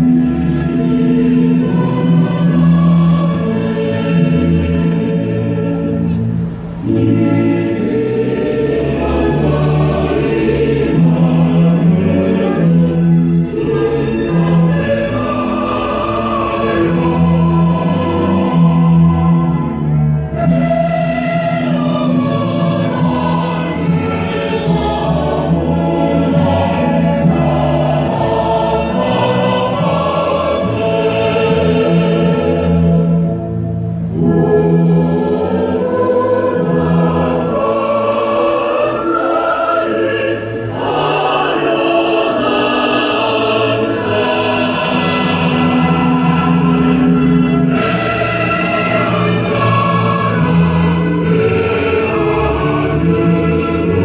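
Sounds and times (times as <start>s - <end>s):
choir singing held notes: 0.0s - 54.0s.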